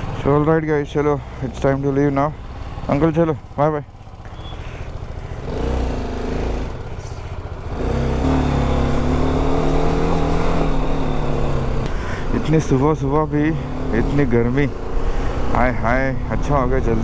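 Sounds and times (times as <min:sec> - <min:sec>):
motorcycle engine pulling away: 0:00.0 - 0:17.0.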